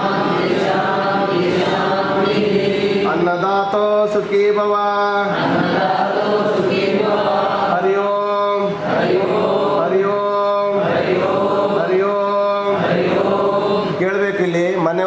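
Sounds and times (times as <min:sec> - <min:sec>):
group chanting in unison: 0:00.0 - 0:14.5.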